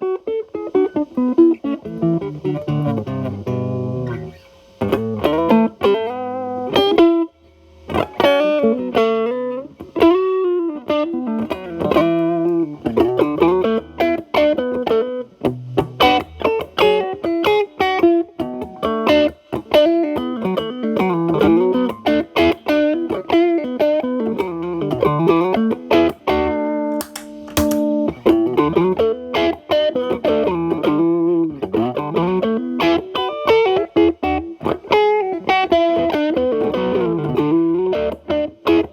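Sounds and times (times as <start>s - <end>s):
distorted electric guitar lead lines: 0.0s - 38.9s.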